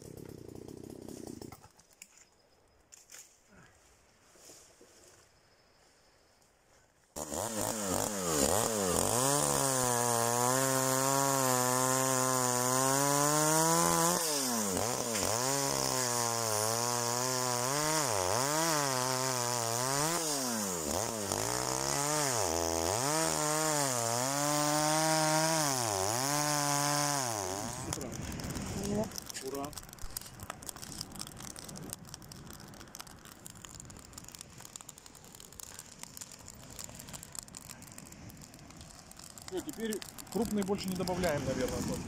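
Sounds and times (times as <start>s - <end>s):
chainsaw cutting a log: 0.0s - 1.6s, 7.2s - 42.0s.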